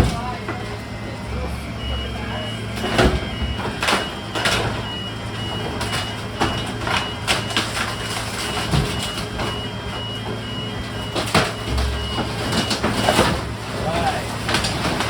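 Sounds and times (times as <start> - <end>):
diesel engine running: 0.0 - 15.0
reversing alarm beeping: 0.5 - 14.8.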